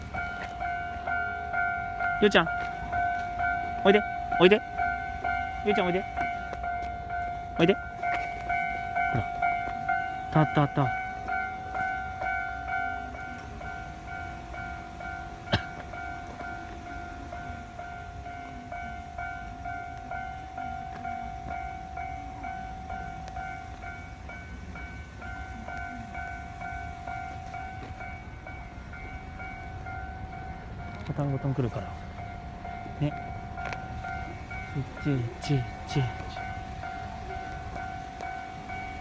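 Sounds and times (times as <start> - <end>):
level-crossing warning bell: 0.0 - 39.0.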